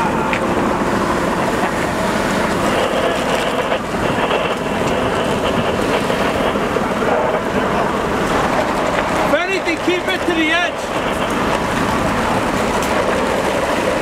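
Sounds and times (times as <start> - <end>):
diesel engines running: 0.0 - 14.0.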